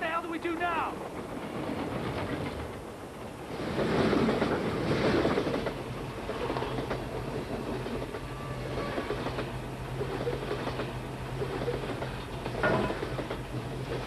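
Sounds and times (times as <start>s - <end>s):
freight train wheels on track: 0.0s - 14.0s.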